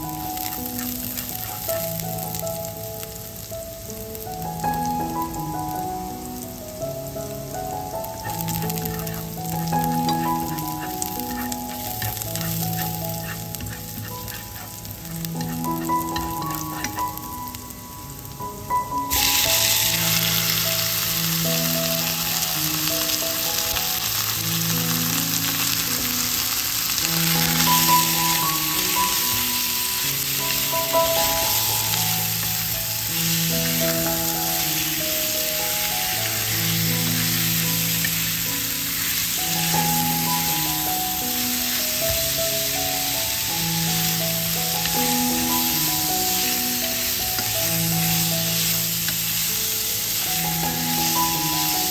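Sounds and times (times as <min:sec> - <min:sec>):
food sizzling in hot oil: 0:00.0 - 0:51.9
soft background melody: 0:00.0 - 0:51.9.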